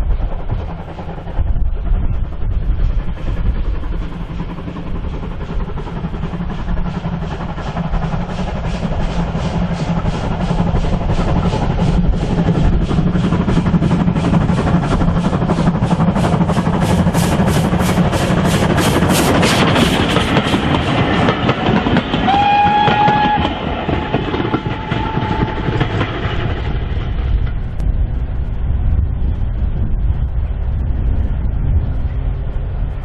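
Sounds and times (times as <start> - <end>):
steam locomotive exhaust beats: 0.0 - 33.0.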